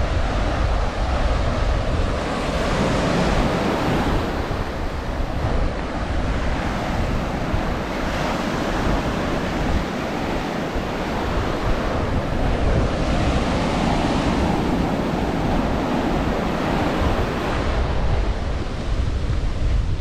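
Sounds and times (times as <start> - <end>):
surf washing onto beach: 0.0 - 20.0
wind rumbling on microphone: 0.0 - 20.0.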